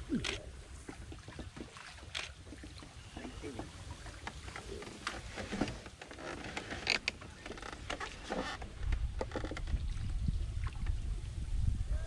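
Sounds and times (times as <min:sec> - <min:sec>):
boat hull and paddle knocking: 0:00.1 - 0:09.8.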